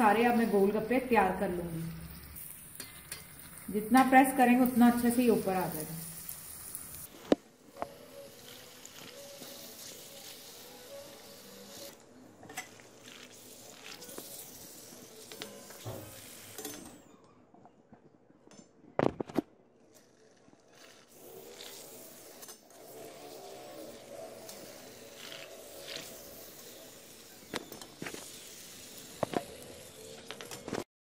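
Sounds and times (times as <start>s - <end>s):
oil sizzling in wok: 0.0s - 7.2s, 7.9s - 12.0s, 12.6s - 16.8s, 21.1s - 30.6s.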